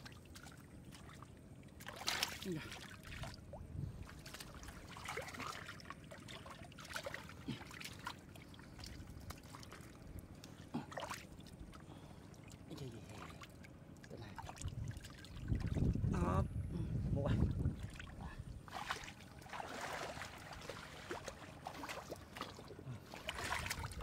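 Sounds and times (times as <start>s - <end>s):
water trickling and splashing: 0.0s - 16.1s, 17.2s - 24.0s.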